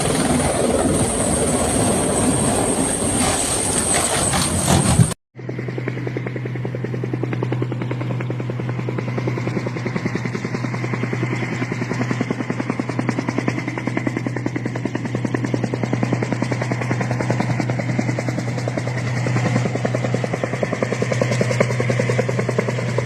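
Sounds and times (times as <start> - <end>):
helicopter engine hum: 0.0 - 23.0
helicopter rotor blades chopping: 0.0 - 23.0.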